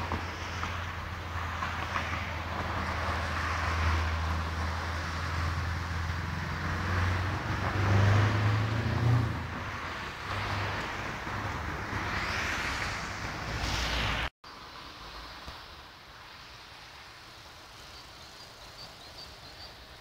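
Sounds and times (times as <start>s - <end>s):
road hiss from passing traffic: 0.0s - 20.0s.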